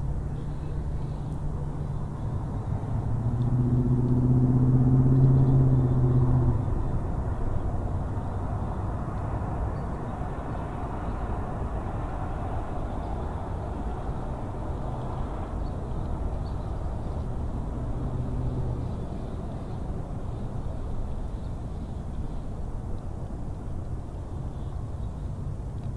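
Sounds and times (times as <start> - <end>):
distant engine drone: 0.0 - 25.9.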